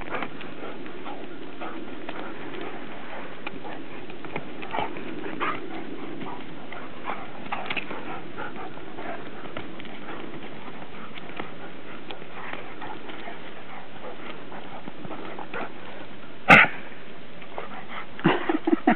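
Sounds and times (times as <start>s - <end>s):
dogs scuffling: 0.0s - 16.5s
clicks and knocks of paws and nails: 0.0s - 18.9s.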